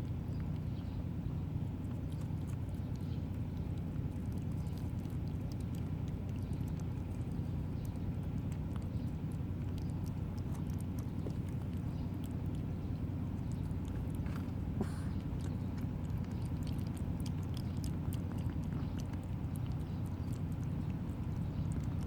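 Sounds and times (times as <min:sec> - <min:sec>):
kittens chewing and licking: 0:00.0 - 0:22.0
steady low hum: 0:00.0 - 0:22.0.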